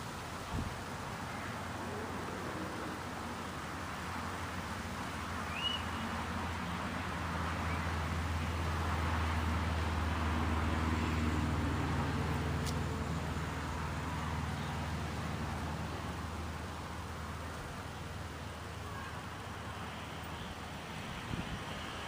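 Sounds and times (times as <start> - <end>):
wind hiss: 0.0 - 14.0, 15.0 - 22.0
vehicle engine hum passing: 0.0 - 22.0.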